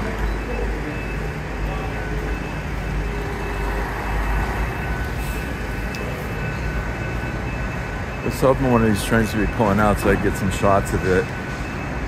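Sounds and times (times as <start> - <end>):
train engine rumble and hum: 0.0 - 12.0.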